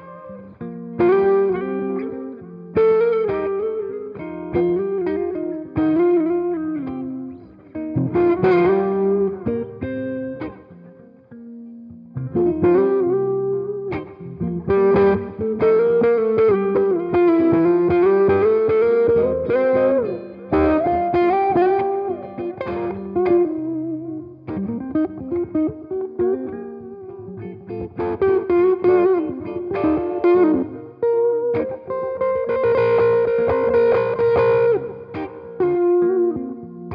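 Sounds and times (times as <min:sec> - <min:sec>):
electric guitar lead line: 0:00.0 - 0:36.9.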